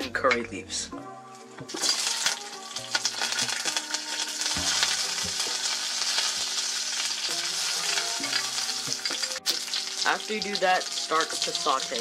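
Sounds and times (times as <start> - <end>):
food sizzling in hot oil: 1.7 - 12.0.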